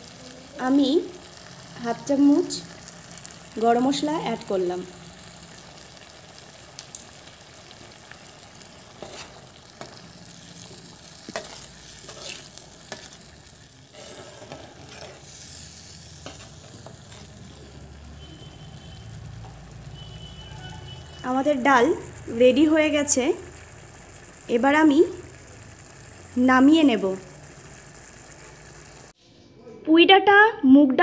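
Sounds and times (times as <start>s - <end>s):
lentils bubbling and sizzling: 0.0s - 29.2s.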